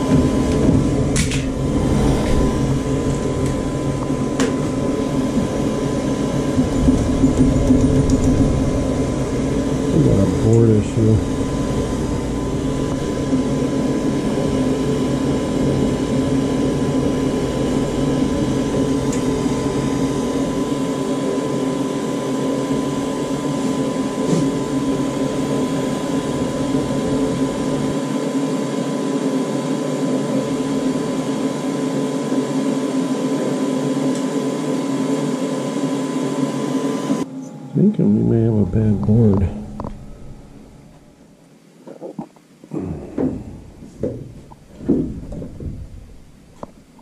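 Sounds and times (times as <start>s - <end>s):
furnace motor drone: 0.0s - 41.6s, 42.7s - 47.0s
high whine: 0.0s - 47.0s.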